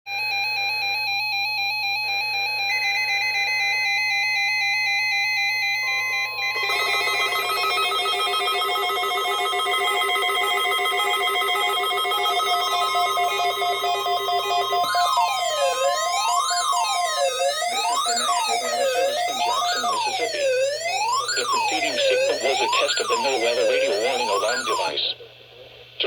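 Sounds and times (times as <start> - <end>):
held electronic tones music: 1.1 - 25.0.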